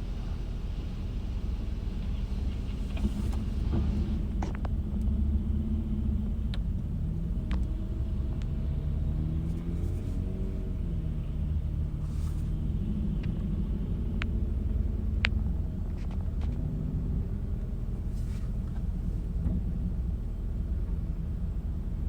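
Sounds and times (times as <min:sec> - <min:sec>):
vehicle rumble: 0:00.0 - 0:22.0.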